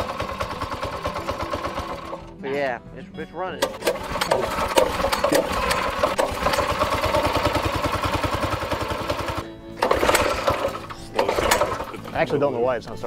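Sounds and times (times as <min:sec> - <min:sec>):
small engine idling: 0:00.0 - 0:02.3, 0:03.6 - 0:12.3.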